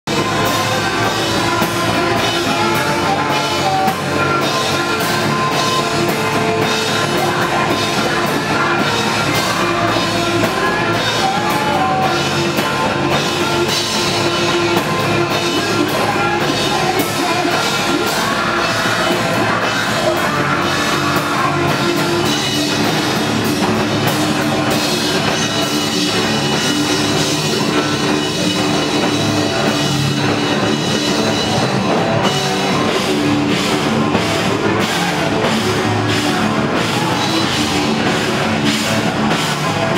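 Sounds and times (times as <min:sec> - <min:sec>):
hardcore band playing live: 0:00.0 - 0:39.9.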